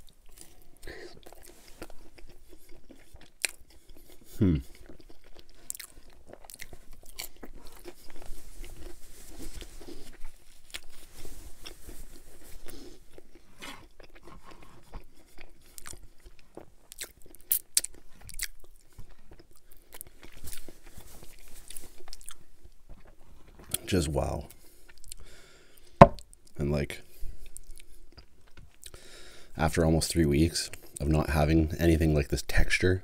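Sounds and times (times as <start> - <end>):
chewing pizza: 0.0 - 29.4.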